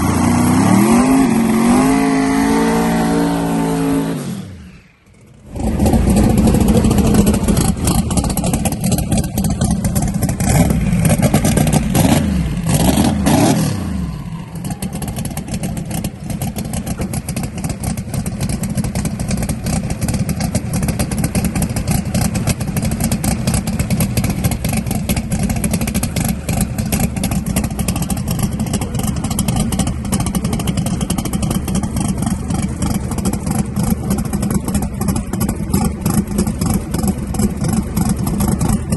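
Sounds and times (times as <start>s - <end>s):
race car engines revving: 0.0s - 38.9s
rough-running engine crackling: 4.7s - 38.9s.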